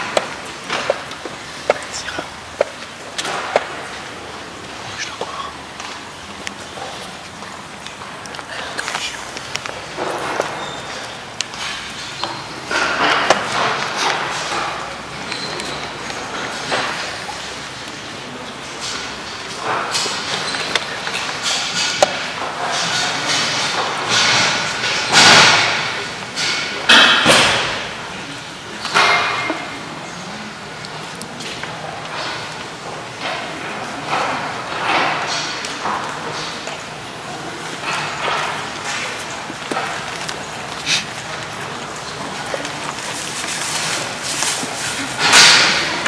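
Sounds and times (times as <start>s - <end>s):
large hall background noise: 0.0s - 46.0s.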